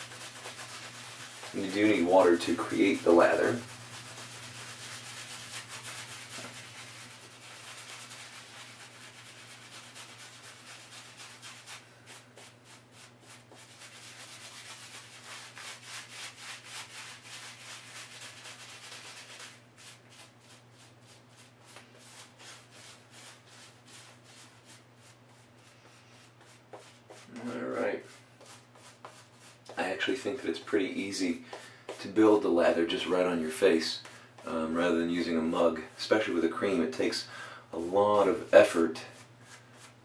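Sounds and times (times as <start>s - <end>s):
shaving brush scrubbing lather: 0.0s - 40.0s.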